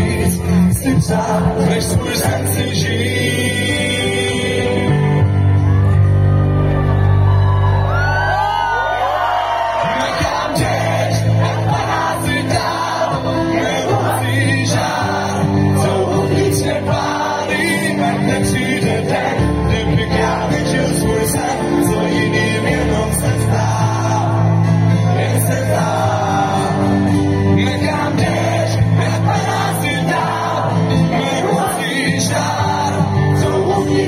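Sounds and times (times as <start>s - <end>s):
man singing: 0.0s - 5.3s, 9.8s - 34.0s
acoustic guitar: 0.0s - 7.9s, 9.8s - 34.0s
keyboard: 0.0s - 34.0s.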